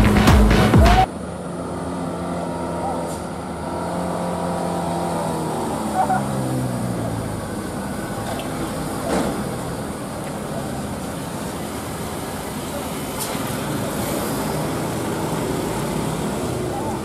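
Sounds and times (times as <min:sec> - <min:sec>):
bus engine and road noise: 0:00.0 - 0:17.0
truck diesel engine passing: 0:00.0 - 0:17.0.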